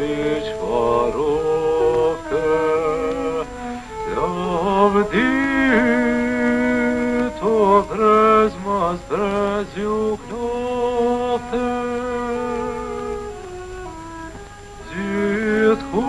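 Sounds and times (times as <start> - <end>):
man singing: 0.0 - 13.5, 14.1 - 16.0.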